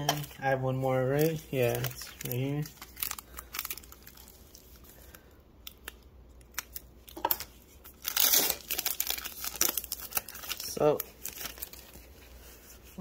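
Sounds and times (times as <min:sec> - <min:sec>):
foil wrapper crinkling: 0:00.0 - 0:12.6.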